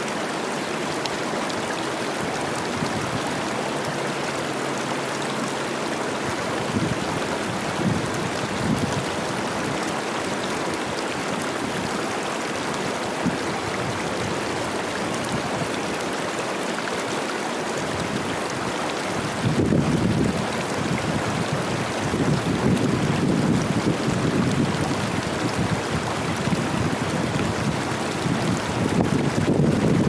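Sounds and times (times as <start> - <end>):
river rushing and babbling: 0.0 - 30.0.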